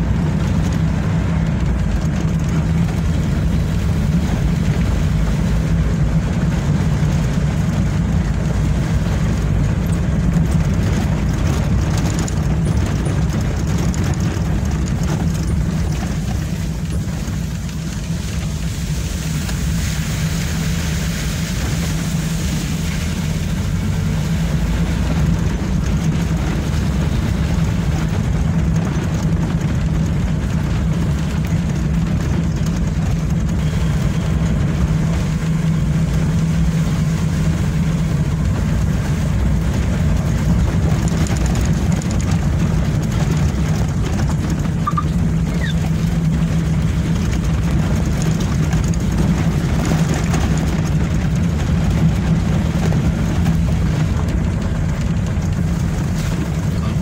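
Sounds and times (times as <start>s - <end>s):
road and wind noise: 0.0s - 57.0s
vehicle engine humming: 0.0s - 57.0s.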